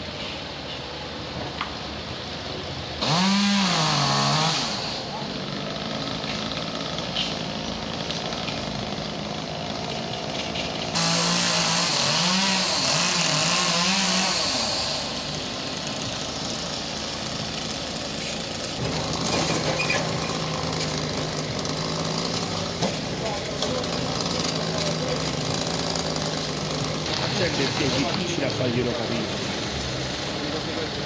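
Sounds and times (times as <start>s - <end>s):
chainsaw idling and revving: 2.1s - 31.0s.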